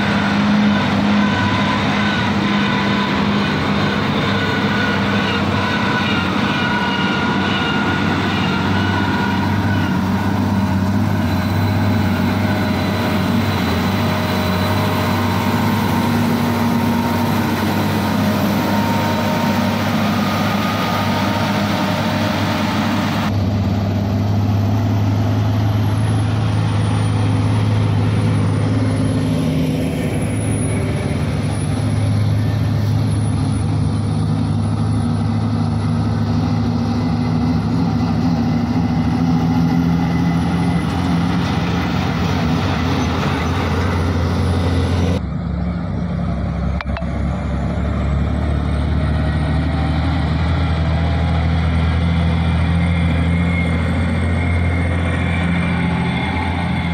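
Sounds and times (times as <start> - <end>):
heavy diesel engines driving past: 0.0 - 56.9.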